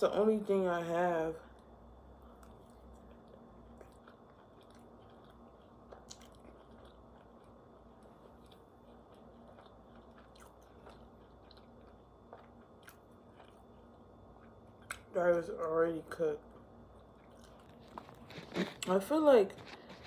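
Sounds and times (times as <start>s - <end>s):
low steady hum: 0.0s - 20.0s
chewing and biting food: 2.2s - 15.2s, 16.4s - 20.0s.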